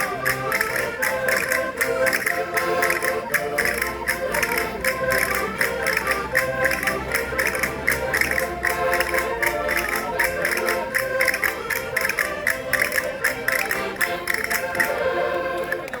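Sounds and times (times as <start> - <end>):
concertinas playing folk tune: 0.0 - 16.0.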